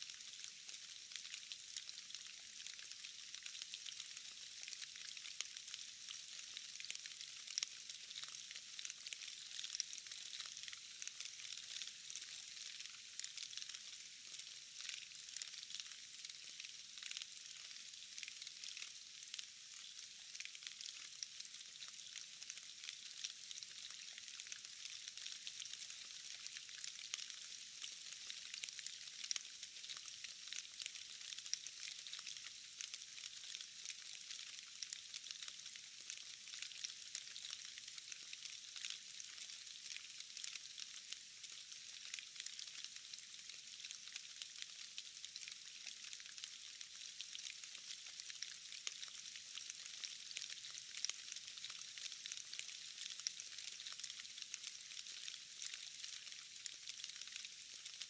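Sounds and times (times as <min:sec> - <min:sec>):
rain falling into a puddle: 0:00.0 - 0:58.0.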